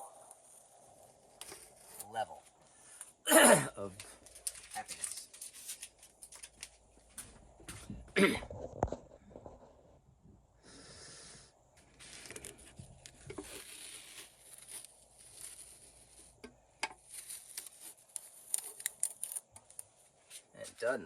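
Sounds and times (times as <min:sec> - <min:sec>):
rustling and scraping: 0:00.0 - 0:03.2, 0:03.9 - 0:10.1, 0:11.8 - 0:21.0.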